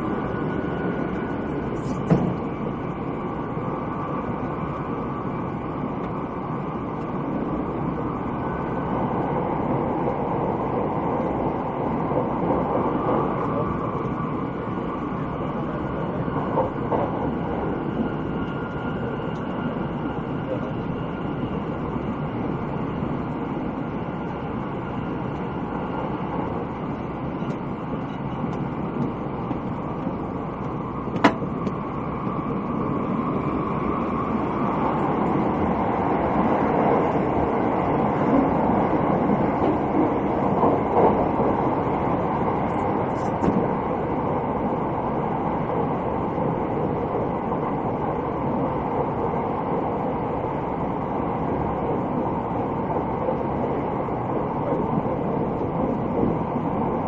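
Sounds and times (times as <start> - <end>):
electric train running noise: 0.0 - 57.0.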